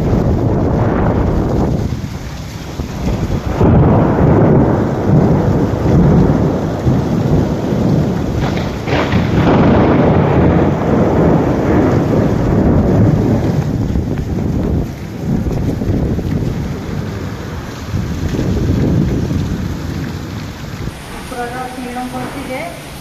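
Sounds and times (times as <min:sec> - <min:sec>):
heavy rain: 0:00.0 - 0:23.0
wind buffeting microphone: 0:00.0 - 0:23.0.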